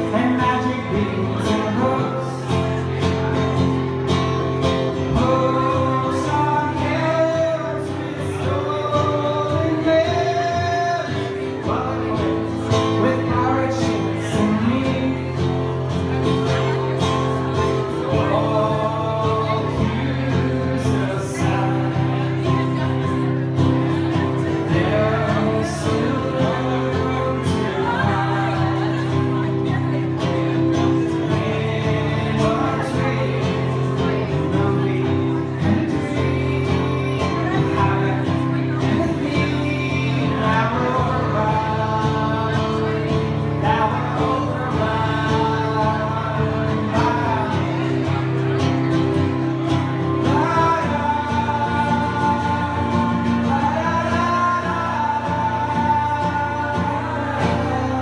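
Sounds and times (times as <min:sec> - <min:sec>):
acoustic guitar: 0:00.0 - 0:58.0
man singing: 0:00.0 - 0:58.0.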